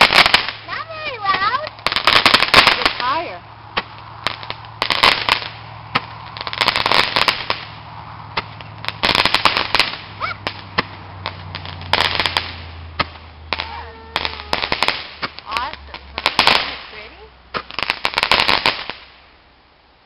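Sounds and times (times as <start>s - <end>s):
fireworks crackling: 0.0s - 19.6s.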